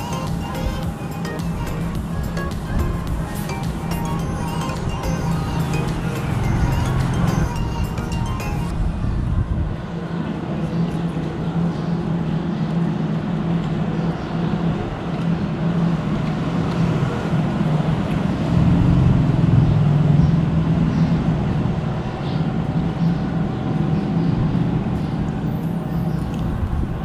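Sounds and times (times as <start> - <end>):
low engine hum: 0.0 - 27.0
traffic noise: 0.0 - 27.0.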